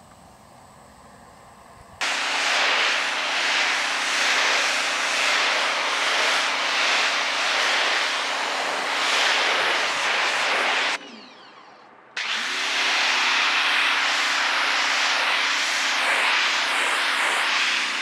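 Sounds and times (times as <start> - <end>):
water jet hissing against siding: 2.0 - 11.0, 12.3 - 18.0
electric motor and pump humming: 2.0 - 18.0.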